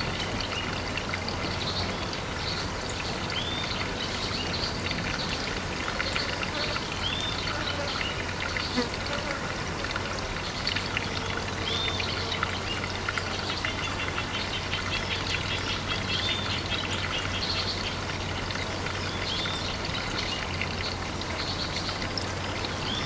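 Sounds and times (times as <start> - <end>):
water pouring into pond: 0.0 - 23.0.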